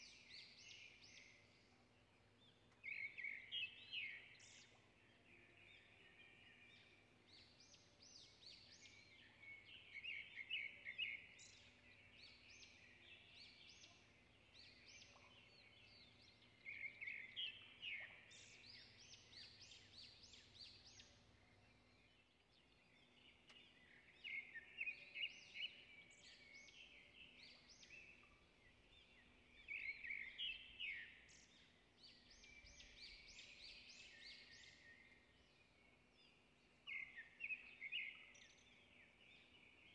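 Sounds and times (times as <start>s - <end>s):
faint birdsong chirps and trills: 0.0s - 39.9s.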